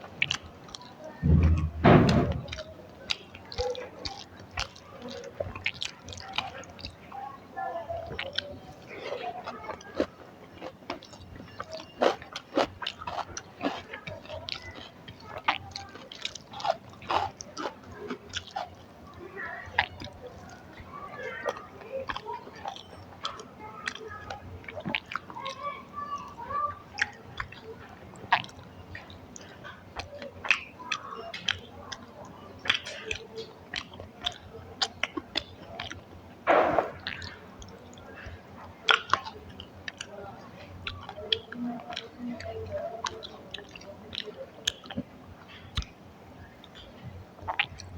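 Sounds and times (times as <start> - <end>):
wet chewing and lip smacks: 0.0 - 1.6, 2.4 - 7.3, 8.0 - 25.6, 26.3 - 47.9.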